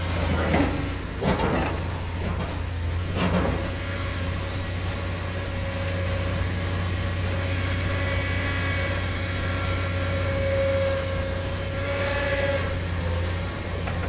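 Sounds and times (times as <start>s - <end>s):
excavator diesel engine drone: 0.0s - 14.0s
whining hydraulic tone: 0.0s - 14.0s.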